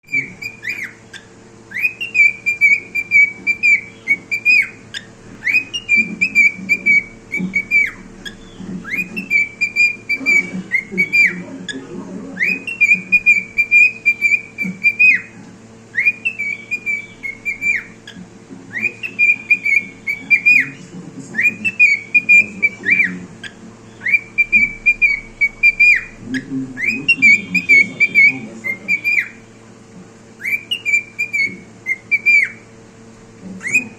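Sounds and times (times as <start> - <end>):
cockatiel whistling a tune: 0.1 - 11.4, 12.4 - 29.4, 30.4 - 32.6, 33.6 - 33.9.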